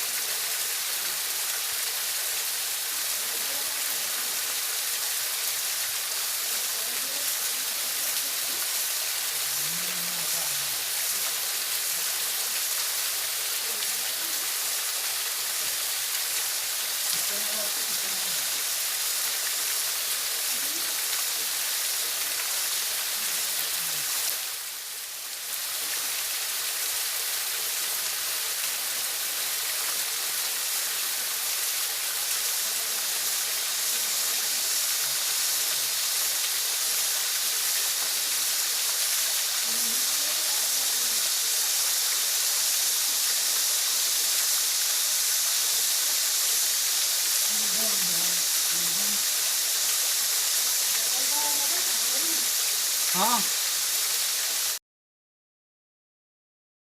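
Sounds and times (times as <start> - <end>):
waterfall rushing: 0.0 - 54.8.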